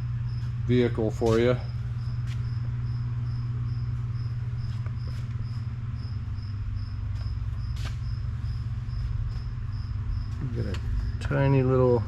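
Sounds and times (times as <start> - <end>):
cricket chirping: 0.0 - 12.0
low hum: 0.0 - 12.0.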